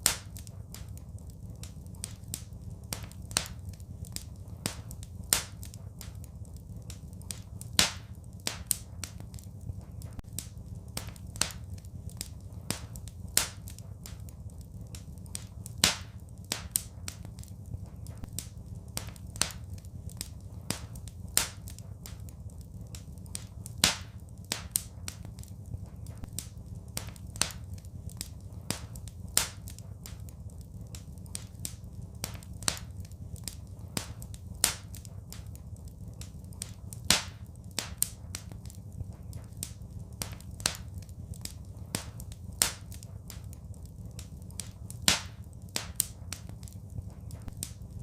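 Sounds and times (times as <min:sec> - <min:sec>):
wood fire crackling: 0:00.0 - 0:48.0
low rumble: 0:00.1 - 0:48.0.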